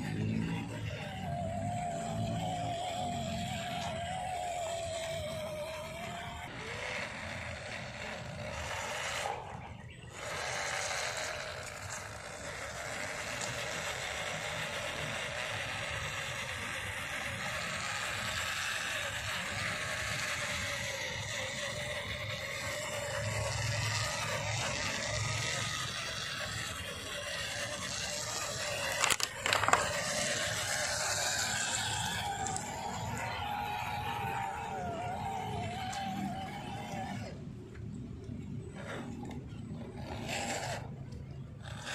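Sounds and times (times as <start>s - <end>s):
small electric motor whining: 0.0s - 41.9s
tyres scraping on dirt: 0.0s - 41.9s.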